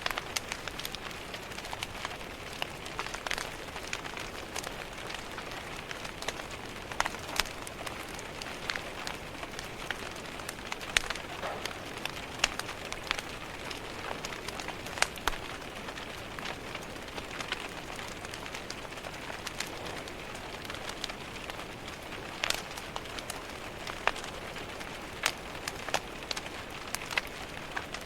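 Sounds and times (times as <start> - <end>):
rain pattering: 0.0 - 28.0
wood fire crackling and popping: 0.0 - 28.0.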